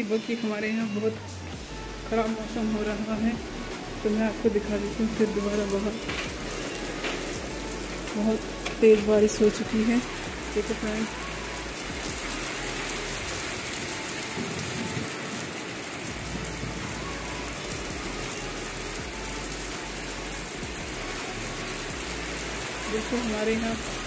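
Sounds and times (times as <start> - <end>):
heavy rain splashing on pavement: 0.0 - 24.0.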